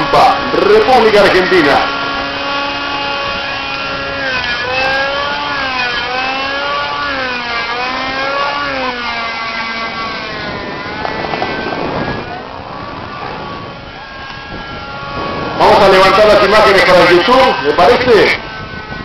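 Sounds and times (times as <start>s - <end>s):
model helicopter engine and rotor: 0.0s - 19.0s.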